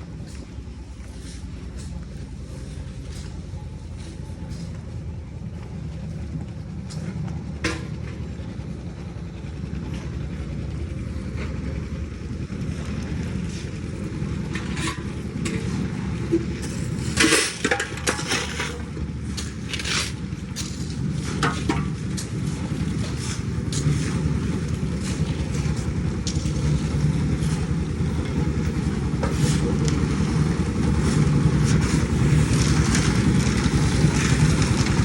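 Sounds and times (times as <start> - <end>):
heavy machinery engine running: 0.0 - 35.0.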